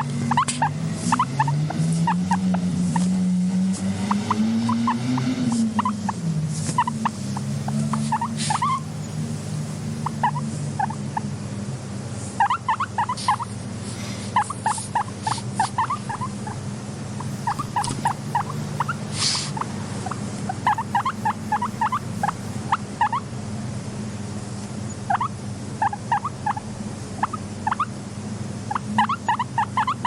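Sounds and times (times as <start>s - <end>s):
guinea pig squeaking: 0.0s - 11.3s, 12.4s - 13.6s, 14.3s - 16.6s, 17.2s - 23.3s, 24.9s - 28.0s, 28.6s - 30.0s
steady low hum: 0.0s - 30.0s.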